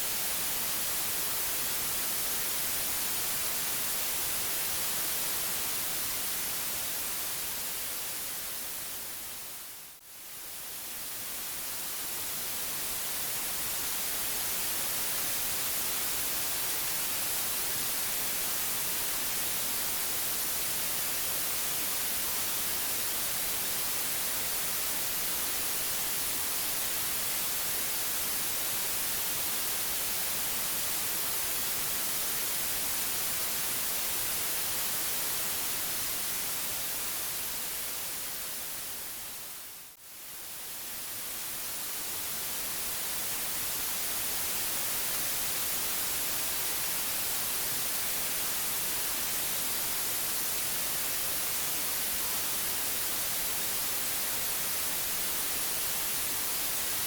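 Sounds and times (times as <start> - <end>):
white noise: 0.0 - 57.0.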